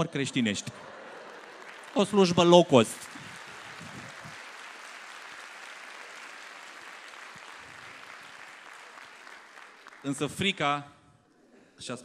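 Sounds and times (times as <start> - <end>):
audience applauding: 0.3 - 10.6.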